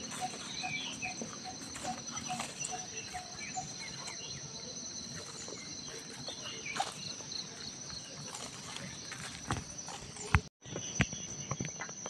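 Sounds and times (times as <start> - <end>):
birds chirping: 0.0 - 12.0
insects droning: 0.0 - 12.0.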